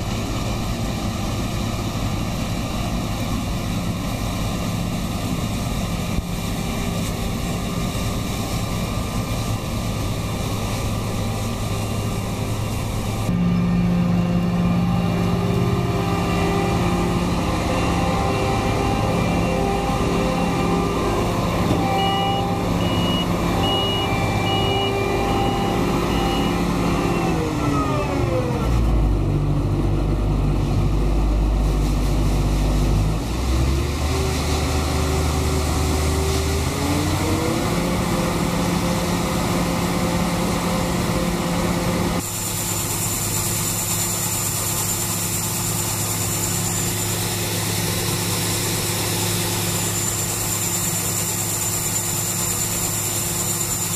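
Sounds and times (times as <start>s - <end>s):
combine harvester engine running: 0.0s - 53.9s.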